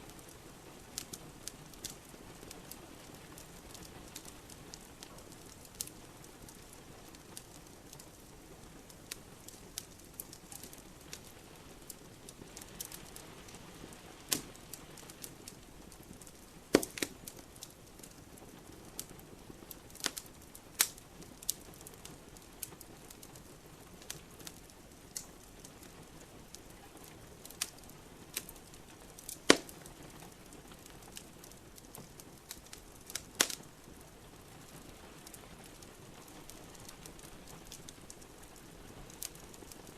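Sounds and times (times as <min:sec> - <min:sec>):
rain hiss: 0:00.0 - 0:39.9
wood fire crackling: 0:00.0 - 0:39.9.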